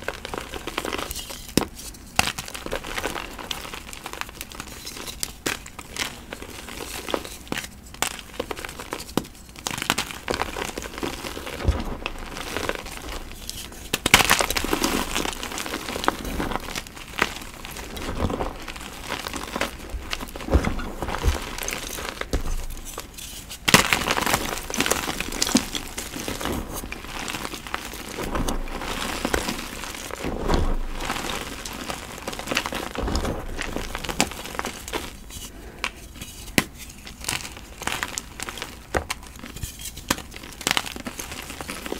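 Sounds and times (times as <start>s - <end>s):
chalk crunching and crumbling: 0.0s - 41.9s.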